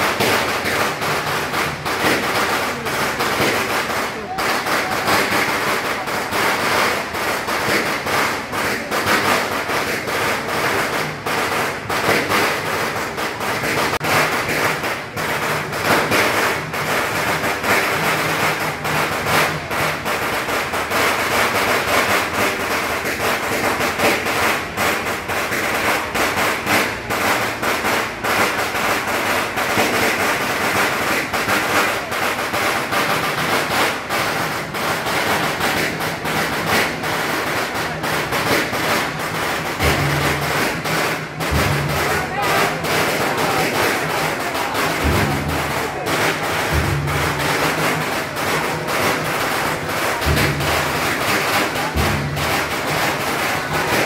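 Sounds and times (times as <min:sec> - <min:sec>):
crowd din: 0:00.0 - 0:54.0
firecrackers crackling: 0:00.0 - 0:54.0.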